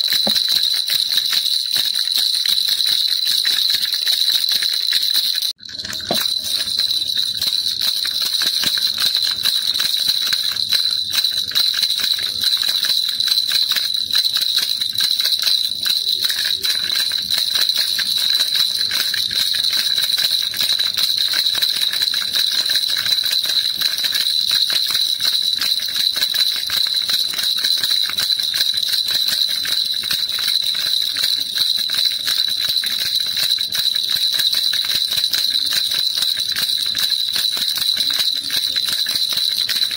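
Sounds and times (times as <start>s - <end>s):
baby rattle jingling: 0.0s - 39.9s.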